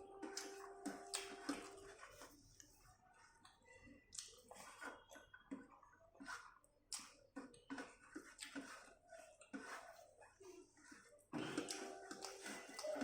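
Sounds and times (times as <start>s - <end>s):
wet chewing and lip-smacking: 0.1s - 9.6s, 11.4s - 13.0s.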